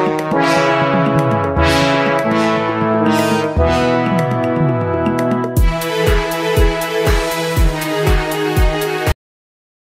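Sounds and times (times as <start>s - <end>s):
news theme music with brass: 0.0s - 9.2s.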